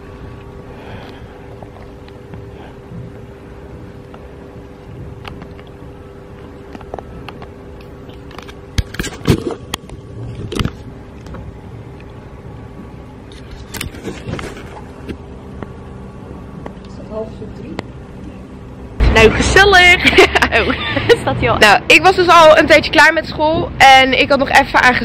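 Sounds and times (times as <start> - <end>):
room hum with faint tones: 0.0 - 25.0.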